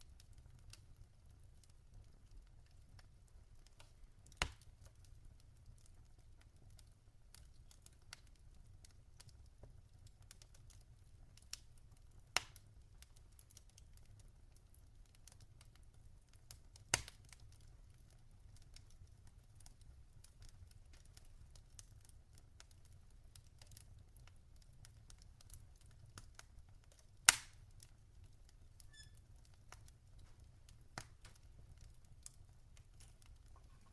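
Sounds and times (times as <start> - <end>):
burning logs crackling: 0.0 - 33.9.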